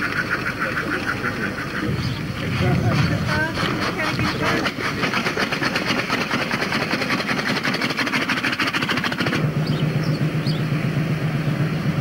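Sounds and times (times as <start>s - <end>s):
small motorcycle engine running: 0.0s - 12.0s
steady low hum: 0.0s - 12.0s.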